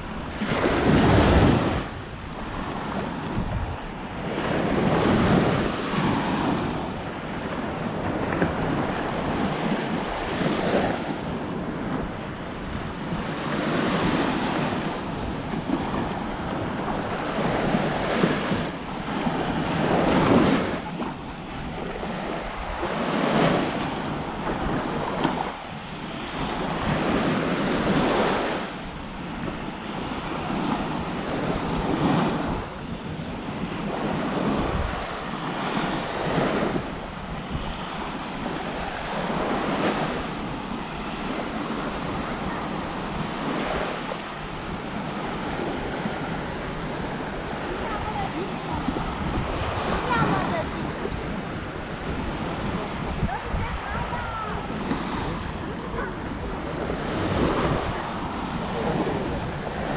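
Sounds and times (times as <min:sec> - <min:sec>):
small waves breaking on shore: 0:00.0 - 0:59.9
wind buffeting microphone: 0:00.0 - 0:59.9.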